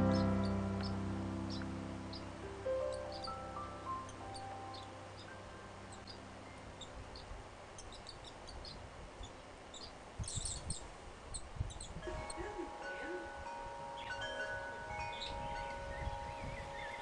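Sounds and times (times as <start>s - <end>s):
swallows chirping and twittering: 1.5s - 13.4s, 14.0s - 17.0s.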